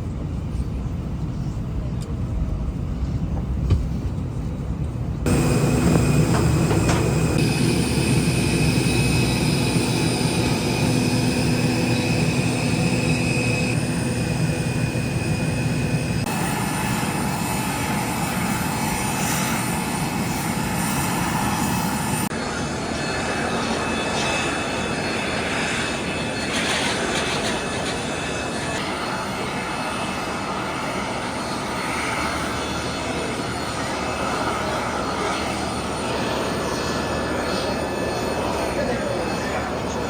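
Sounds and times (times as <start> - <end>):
airliner engines droning: 0.0 - 40.0.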